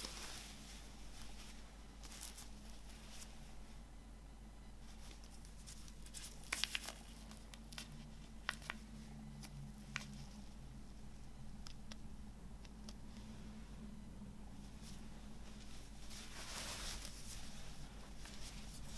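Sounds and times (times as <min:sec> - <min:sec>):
faint steady hum: 0:00.0 - 0:18.9.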